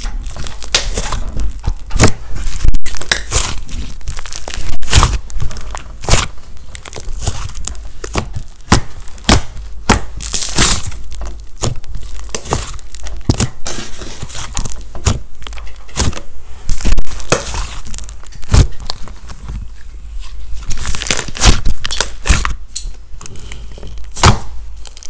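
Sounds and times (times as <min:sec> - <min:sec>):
slime squelching and popping: 0:00.0 - 0:19.6, 0:20.6 - 0:22.9.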